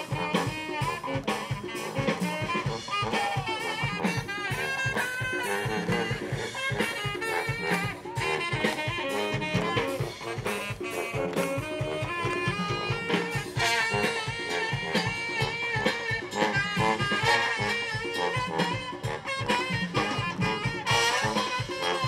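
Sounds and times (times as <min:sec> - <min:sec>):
drum kit beat: 0:00.0 - 0:22.0
saxophone: 0:00.0 - 0:22.0
sousaphone bass line: 0:00.0 - 0:22.0
trombones: 0:00.0 - 0:22.0
trumpets: 0:00.0 - 0:22.0.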